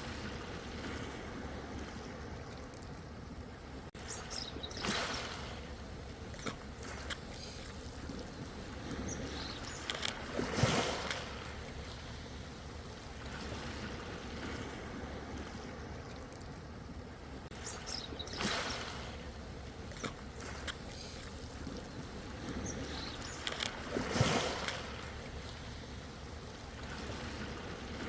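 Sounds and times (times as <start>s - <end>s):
ocean waves washing in: 0.0s - 2.6s, 3.2s - 28.0s
small water splashes: 0.0s - 28.0s.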